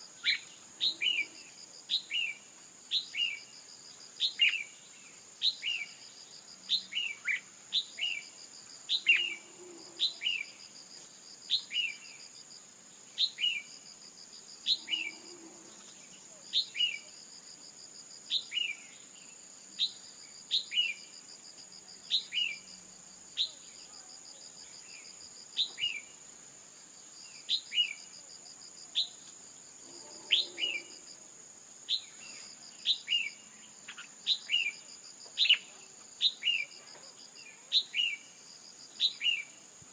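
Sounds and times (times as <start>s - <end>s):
insect drone and trilling: 0.0s - 39.9s.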